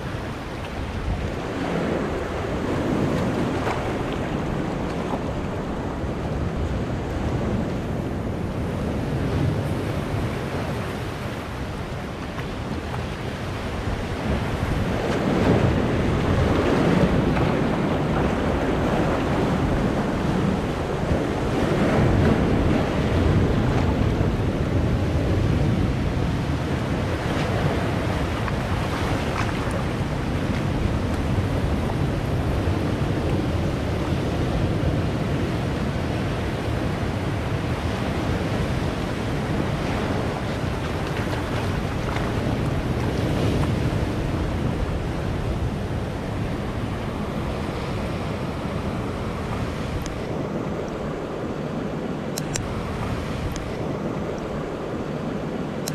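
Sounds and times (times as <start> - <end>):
surf washing among boulders: 0.0 - 55.9.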